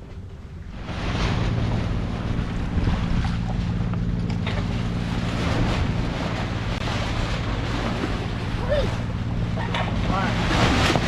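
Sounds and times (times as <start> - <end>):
boat engine hum: 0.0 - 11.0
water rushing along hull: 0.0 - 11.0
wind buffeting microphone: 0.0 - 11.0.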